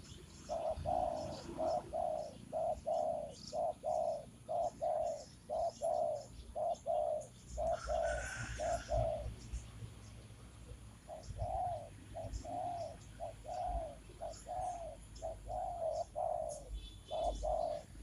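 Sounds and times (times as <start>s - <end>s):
dove cooing: 0.0s - 9.6s, 11.0s - 18.0s.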